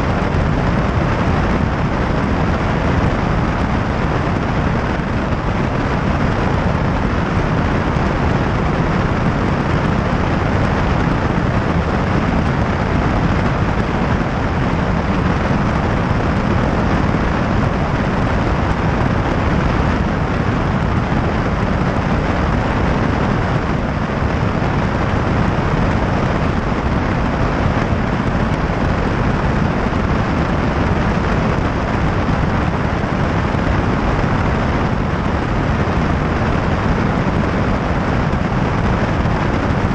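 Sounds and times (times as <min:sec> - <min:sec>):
airplane engine droning: 0:00.0 - 0:39.9
rushing air: 0:00.0 - 0:39.9.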